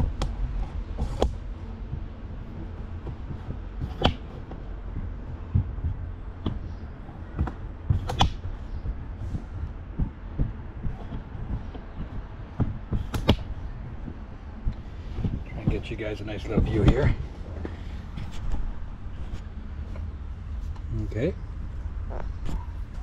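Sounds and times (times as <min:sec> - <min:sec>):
sharp clicks and knocks: 0:00.0 - 0:18.7.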